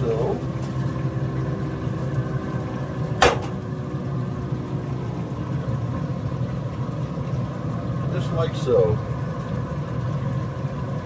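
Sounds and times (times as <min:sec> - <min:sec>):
draft fan whine: 0:00.0 - 0:11.0
smoker running with low hum: 0:00.0 - 0:11.0.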